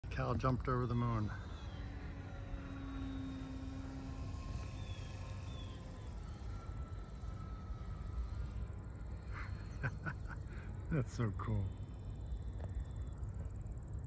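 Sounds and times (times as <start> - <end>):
model airplane motor humming: 0.0 - 14.0.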